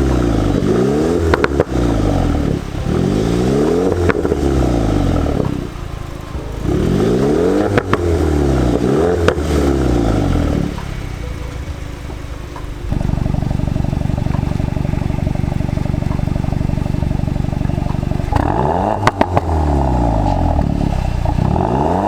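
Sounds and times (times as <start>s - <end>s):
car engine idling: 0.0s - 22.0s
car engine revving: 0.0s - 22.0s
exhaust cracks: 0.0s - 22.0s.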